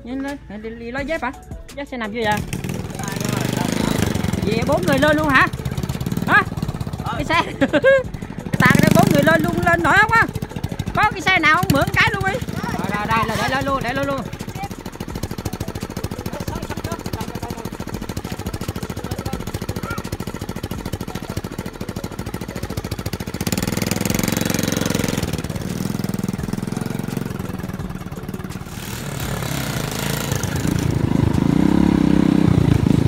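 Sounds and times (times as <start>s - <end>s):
motorcycle engine revving: 2.2s - 33.0s
small motorcycle engine idling: 2.2s - 33.0s.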